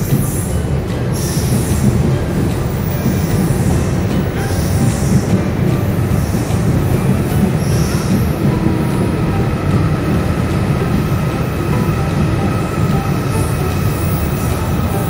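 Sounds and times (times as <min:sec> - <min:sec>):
train rail noise: 0:00.0 - 0:15.0.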